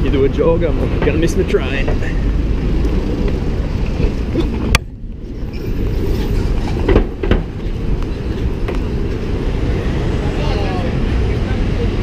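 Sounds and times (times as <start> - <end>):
passing cars rumbling: 0.0 - 12.0.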